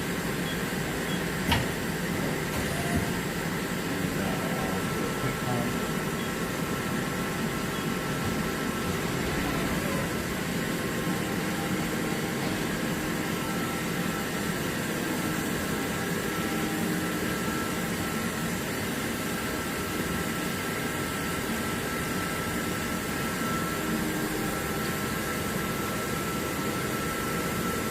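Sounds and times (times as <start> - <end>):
lathe running with high whine: 0.0 - 27.9.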